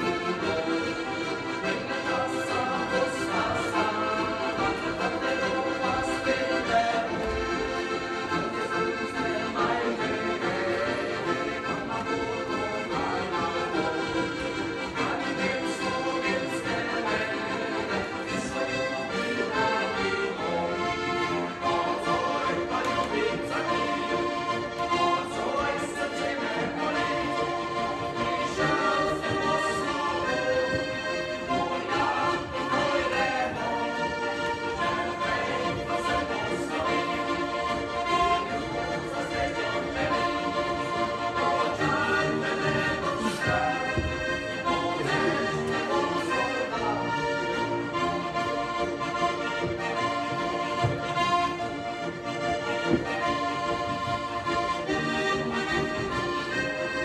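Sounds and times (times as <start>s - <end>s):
button accordions playing folk-pop: 0.0s - 57.0s.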